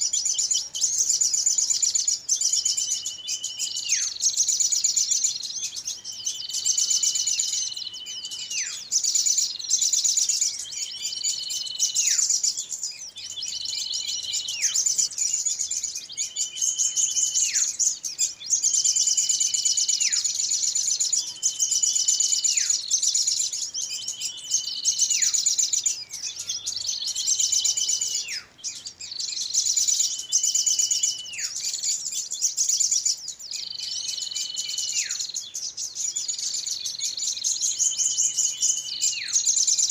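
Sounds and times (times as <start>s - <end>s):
small songbirds chattering: 0.0s - 39.9s.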